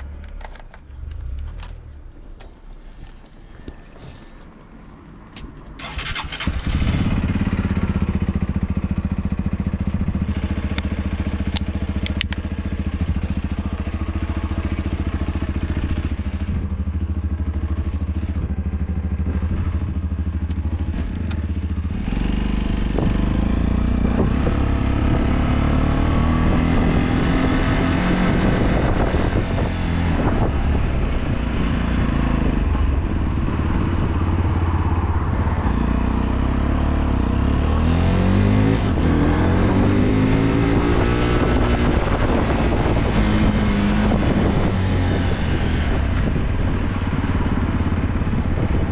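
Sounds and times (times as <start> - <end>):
motorcycle engine: 5.8 - 48.9.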